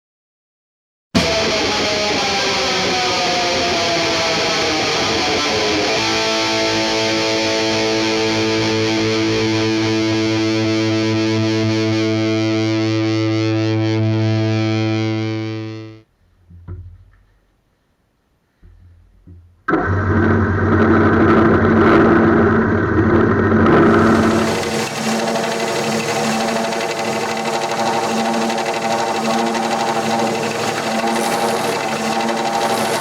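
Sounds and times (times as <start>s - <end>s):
distorted electric guitar: 1.2s - 16.1s, 19.7s - 33.0s.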